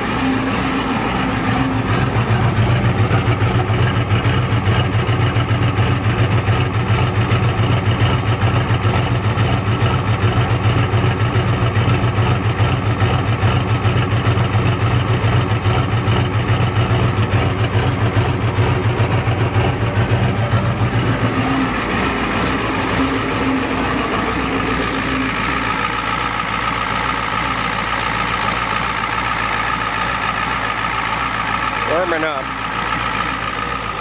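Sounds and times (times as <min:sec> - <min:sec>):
diesel engine idling rough: 0:00.0 - 0:34.0.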